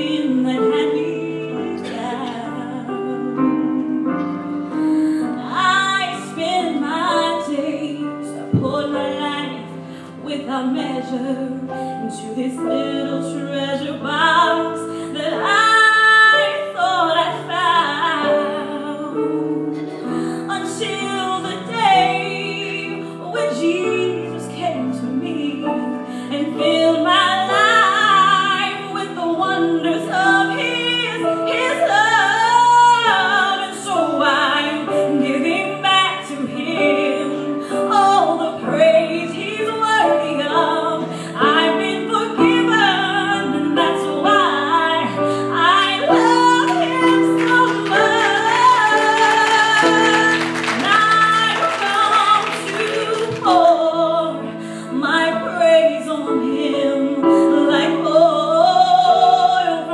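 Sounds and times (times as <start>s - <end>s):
woman singing gospel song: 0.0s - 4.1s, 5.1s - 59.9s.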